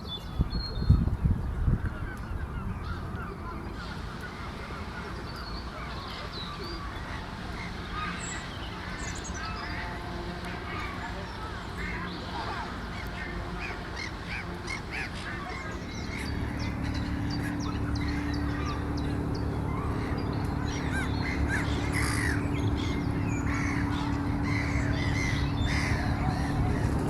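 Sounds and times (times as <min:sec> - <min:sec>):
water birds calling: 0:00.0 - 0:27.0
steady low hum: 0:02.4 - 0:27.0.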